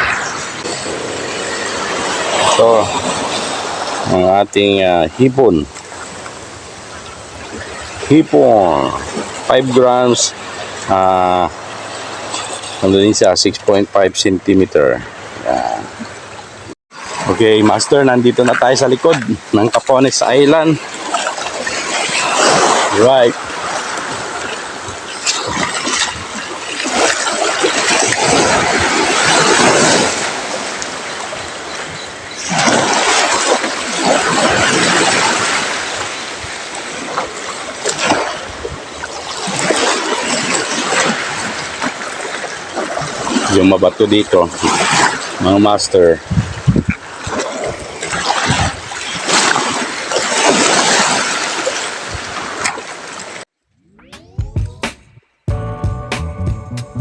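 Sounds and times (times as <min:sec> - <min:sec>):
waves washing against rocks: 0:00.0 - 0:13.4, 0:17.0 - 0:45.6, 0:46.4 - 0:53.4.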